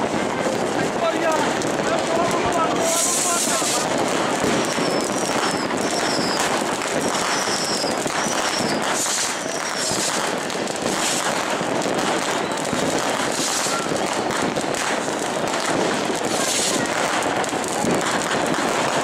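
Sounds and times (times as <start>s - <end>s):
firecrackers crackling and banging: 0.0s - 19.0s
firework whistles: 2.6s - 19.0s.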